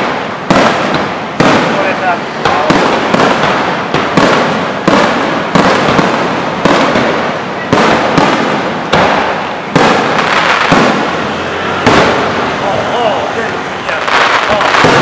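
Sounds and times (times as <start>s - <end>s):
firework shells bursting: 0.0s - 12.6s, 13.8s - 15.0s
firework crackle: 0.0s - 15.0s.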